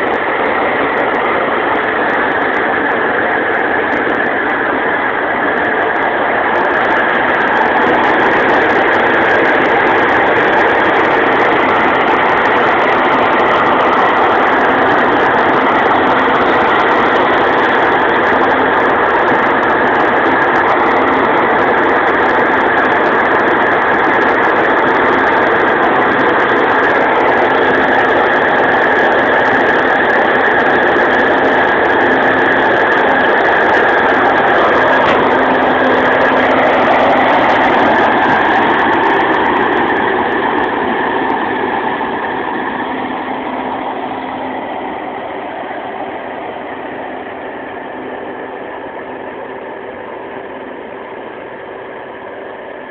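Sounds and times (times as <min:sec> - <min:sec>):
combine harvester running: 0:00.0 - 0:52.9
tractor running: 0:00.0 - 0:52.9
grain pouring into trailer: 0:00.1 - 0:51.0.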